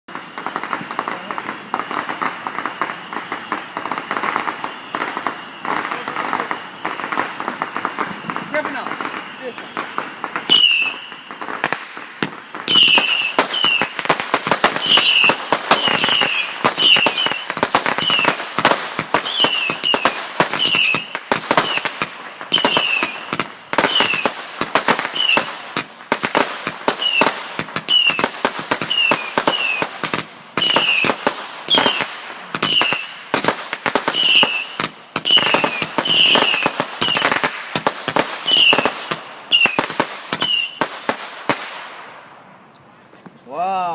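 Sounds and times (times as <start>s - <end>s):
fireworks bangs and crackling: 0.1s - 42.4s.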